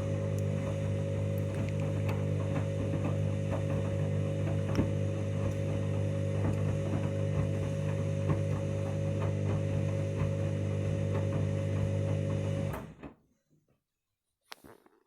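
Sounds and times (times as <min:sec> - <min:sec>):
drain pump humming: 0:00.0 - 0:13.0.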